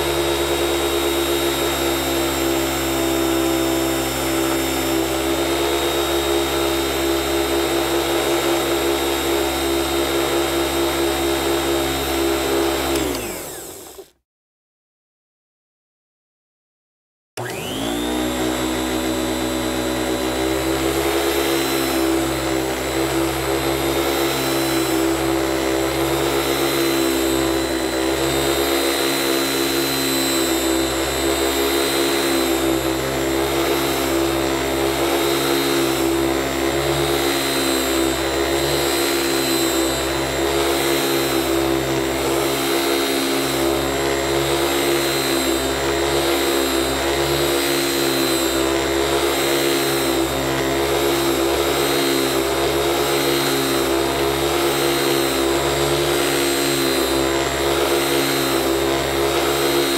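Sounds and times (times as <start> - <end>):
vacuum cleaner motor whine: 0.0 - 14.2, 17.4 - 59.9.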